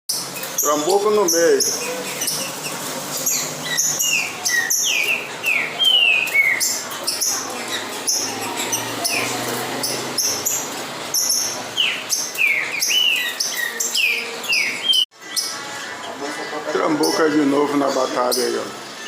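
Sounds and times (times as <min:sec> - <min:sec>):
rival bird singing: 0:00.1 - 0:19.0.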